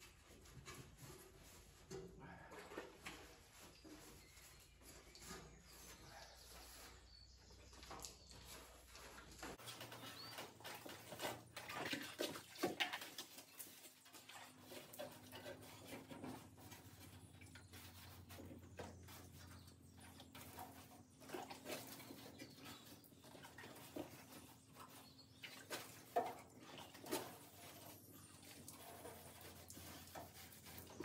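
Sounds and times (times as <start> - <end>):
sponge wiping metal: 0.0 - 7.3, 13.1 - 31.0.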